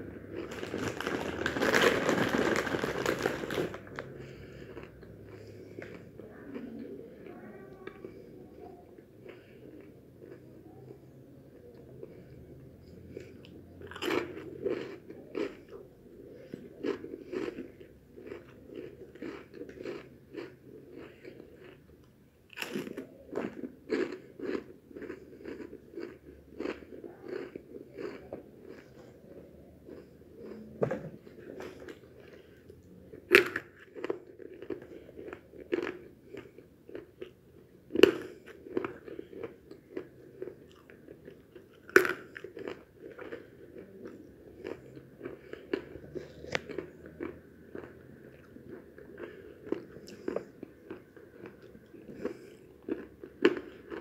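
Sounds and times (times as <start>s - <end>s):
person chewing crunchy snacks: 0.0s - 7.2s, 8.0s - 11.0s, 11.6s - 54.0s.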